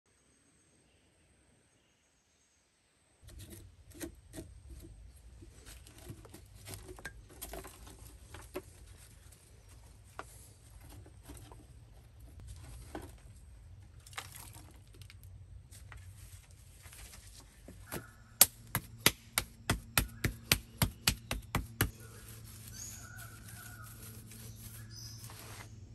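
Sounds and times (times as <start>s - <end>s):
clay scraping and knocking: 3.2s - 25.8s.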